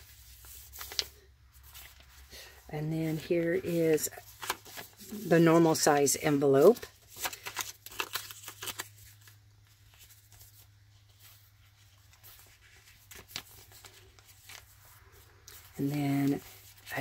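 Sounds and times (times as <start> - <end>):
paper pages rustling: 0.0 - 17.0.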